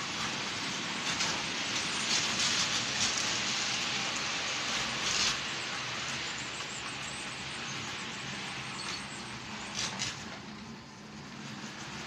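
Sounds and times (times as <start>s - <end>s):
model train wheels rattling on rails: 0.0s - 12.0s.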